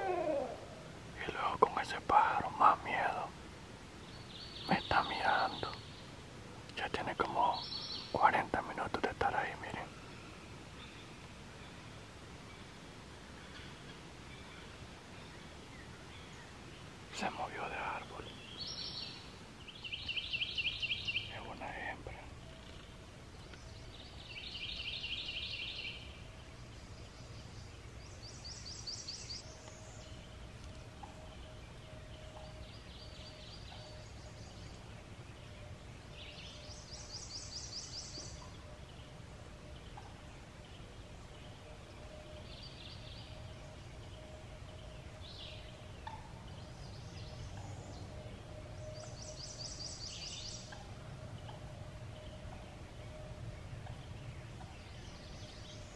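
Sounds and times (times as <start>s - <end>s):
faint hum and low rumble: 0.0s - 55.9s
songbird singing: 0.0s - 55.9s.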